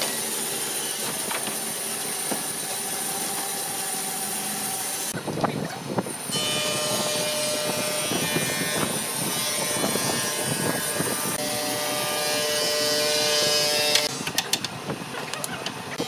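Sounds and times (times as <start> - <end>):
woodshop machinery droning: 0.0 - 5.2, 6.2 - 14.2.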